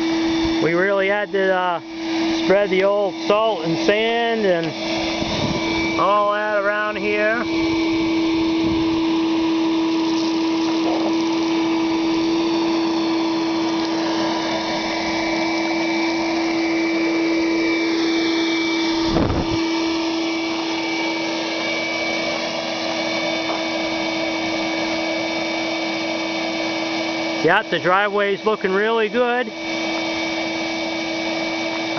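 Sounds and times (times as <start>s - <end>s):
shop vacuum running: 0.0s - 31.9s.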